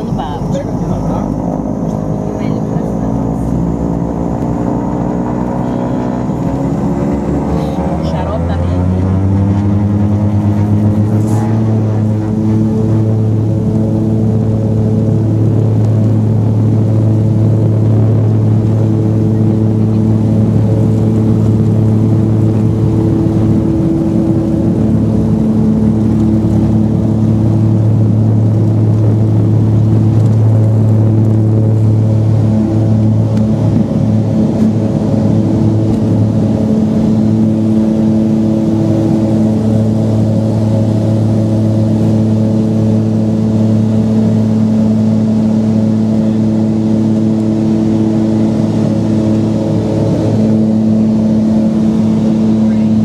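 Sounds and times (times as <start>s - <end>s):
propeller aircraft engine from cabin: 0.0s - 53.0s.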